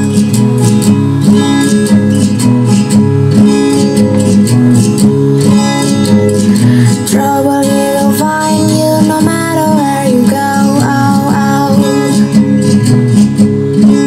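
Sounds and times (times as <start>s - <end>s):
acoustic guitar music over speaker: 0.0s - 14.0s.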